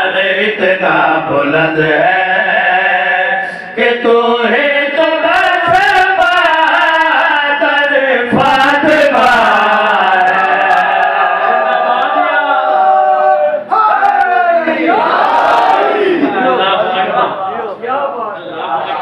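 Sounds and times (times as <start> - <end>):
men chanting devotional poem: 0.0 - 17.4.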